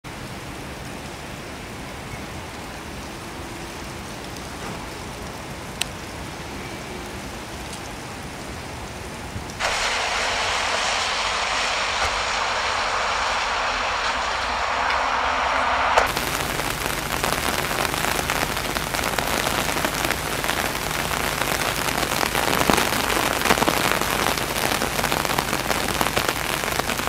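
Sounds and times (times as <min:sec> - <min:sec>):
rain hissing on wet pavement: 0:00.0 - 0:27.0
low rumble of city noise: 0:00.1 - 0:27.0.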